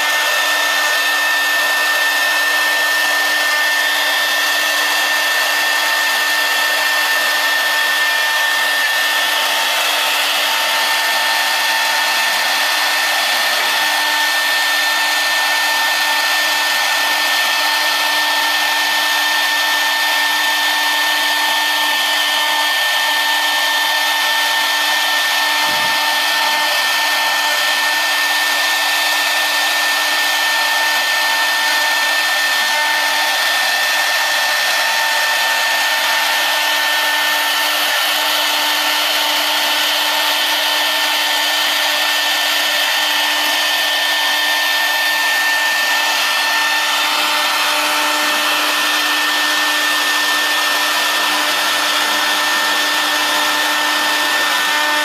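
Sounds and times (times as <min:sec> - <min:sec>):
router spindle whining: 0:00.0 - 0:55.0.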